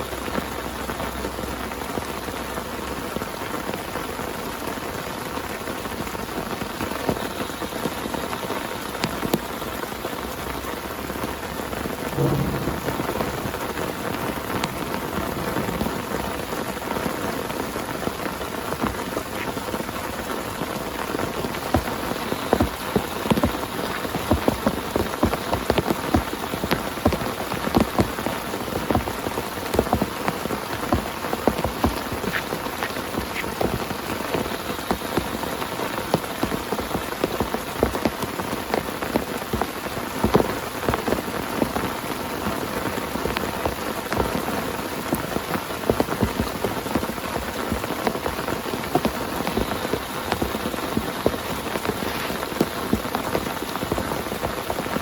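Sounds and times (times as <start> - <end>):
heavy rain on a tent: 0.0 - 55.0
raindrops striking tent: 0.0 - 55.0.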